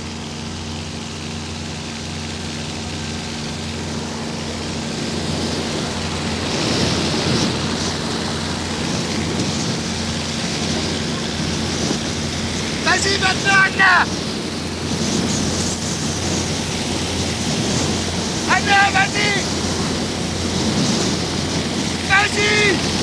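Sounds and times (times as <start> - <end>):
propeller airplane engines droning: 0.0 - 23.0
rushing air noise: 2.9 - 23.0.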